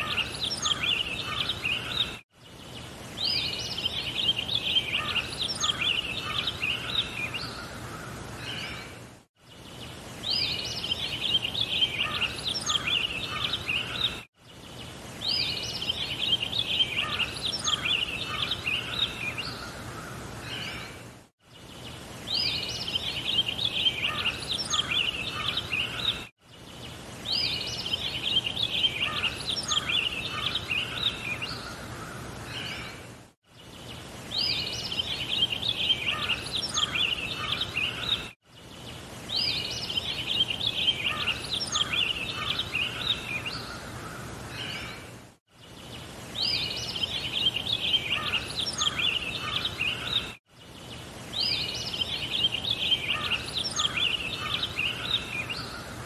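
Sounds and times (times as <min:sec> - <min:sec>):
birds chirping and twittering: 0:00.0 - 0:56.0
steady background hiss: 0:00.0 - 0:56.0.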